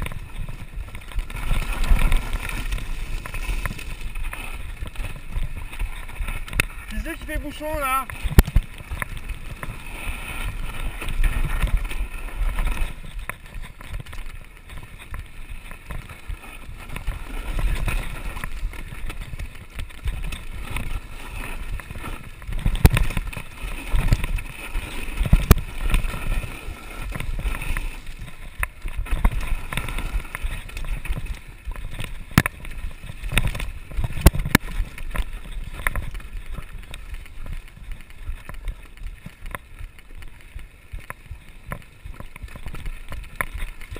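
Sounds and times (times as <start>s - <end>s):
bike rattling over bumps: 0.0s - 43.9s
bike tyres rumbling on dirt: 0.0s - 43.9s
wind: 0.0s - 43.9s.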